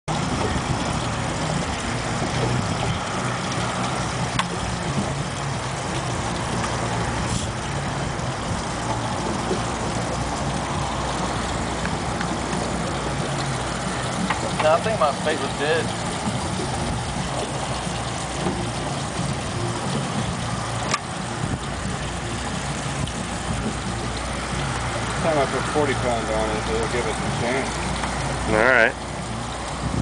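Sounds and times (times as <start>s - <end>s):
boat engine idling: 0.1s - 30.0s
constant hiss: 1.0s - 29.9s.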